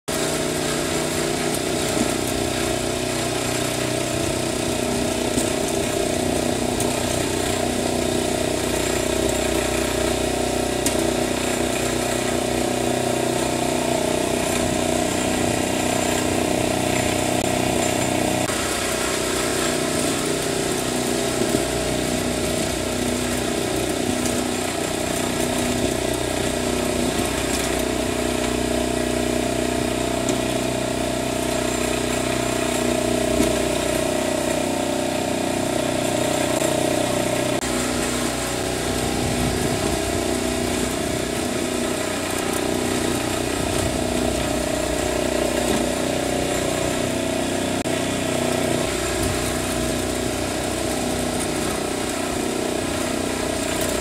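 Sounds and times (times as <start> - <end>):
motor humming steadily: 0.1 - 54.0.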